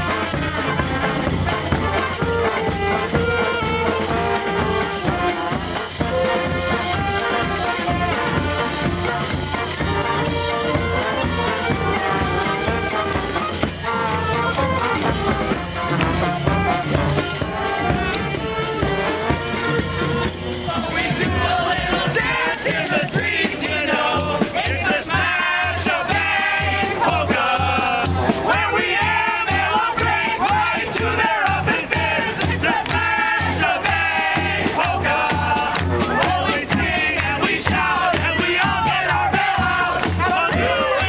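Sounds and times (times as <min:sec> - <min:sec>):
bass drum beat: 0:00.0 - 0:41.0
brass band playing a polka: 0:00.0 - 0:41.0
people singing: 0:00.0 - 0:41.0.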